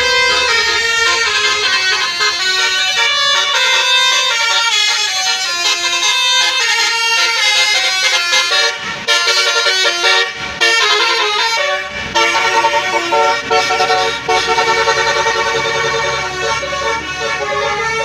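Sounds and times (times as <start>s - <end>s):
bus engine running: 0.0s - 18.0s
multi-tone bus horn melody: 0.0s - 18.0s.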